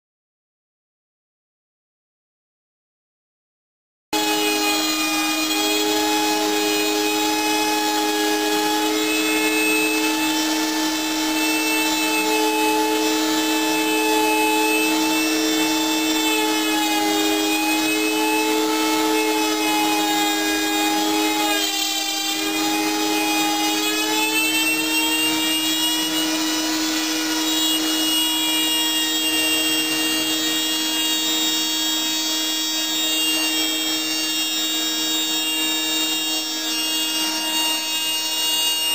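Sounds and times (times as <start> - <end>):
bit cutting board: 4.2 - 38.9
router spindle whining: 4.2 - 38.9.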